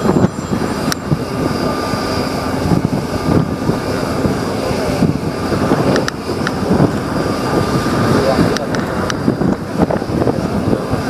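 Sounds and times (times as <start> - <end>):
aircraft engine with whine: 0.0 - 11.0
wind buffeting microphone: 0.0 - 11.0.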